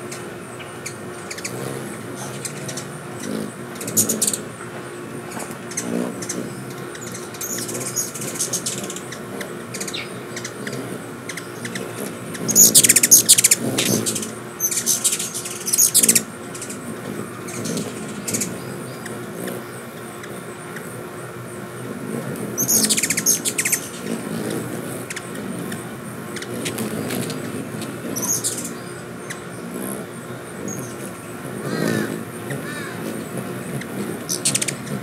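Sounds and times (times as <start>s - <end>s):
hummingbirds chattering: 0.0s - 35.0s.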